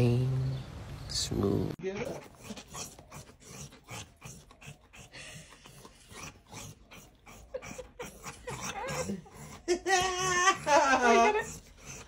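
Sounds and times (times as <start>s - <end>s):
dog breathy sounds: 1.8s - 12.0s.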